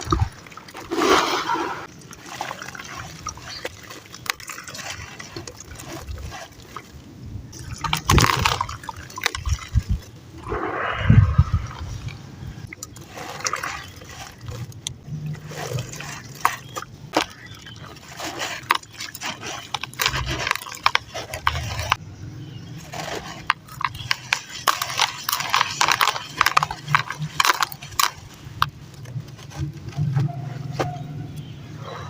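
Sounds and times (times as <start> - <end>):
chunks crumbling in water: 0.0 - 10.3, 11.6 - 22.0, 22.7 - 31.5.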